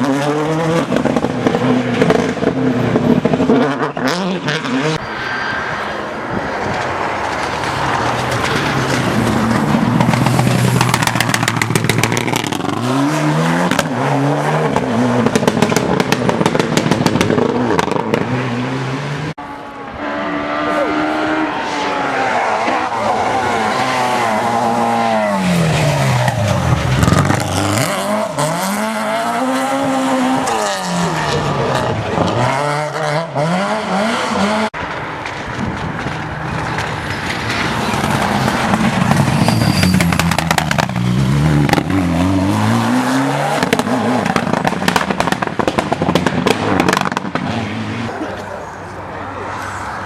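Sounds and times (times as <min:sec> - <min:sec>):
rally car engine revving: 0:00.0 - 0:05.0, 0:07.2 - 0:34.8, 0:36.0 - 0:48.5.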